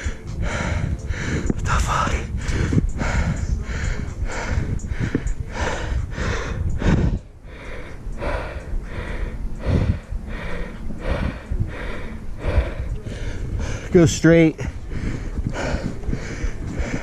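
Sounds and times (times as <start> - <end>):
person panting hard: 0.0 - 14.0, 14.6 - 17.0
low rumble on microphone: 0.0 - 17.0.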